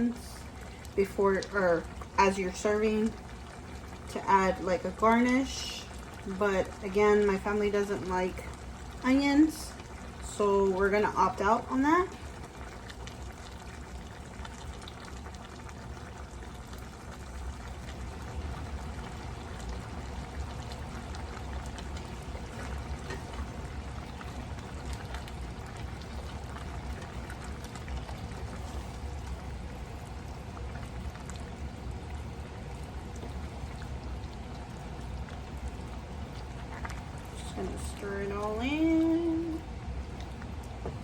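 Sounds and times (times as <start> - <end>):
low steady hum: 0.0 - 41.0
pasta sauce bubbling in a pot: 0.0 - 41.0.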